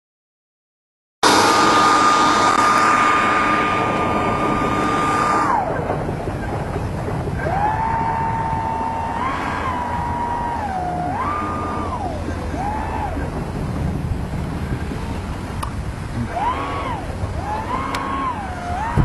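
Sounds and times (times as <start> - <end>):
model jet fans whining: 1.2 - 19.0.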